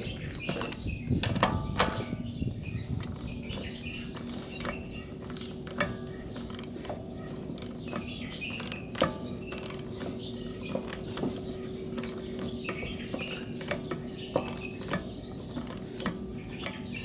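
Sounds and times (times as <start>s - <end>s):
steady low hum: 0.0s - 17.0s
metallic clicks and light scraping: 2.9s - 17.0s.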